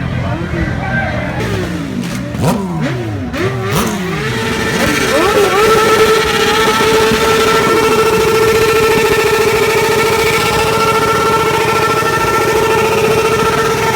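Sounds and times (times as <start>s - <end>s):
motorcycle engines revving: 0.0s - 13.9s.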